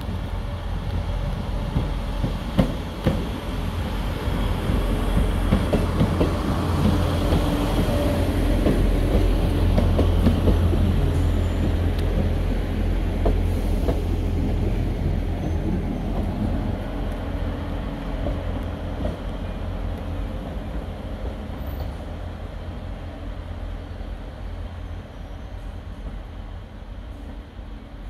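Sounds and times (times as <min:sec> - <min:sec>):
diesel train engines droning: 0:00.0 - 0:28.0.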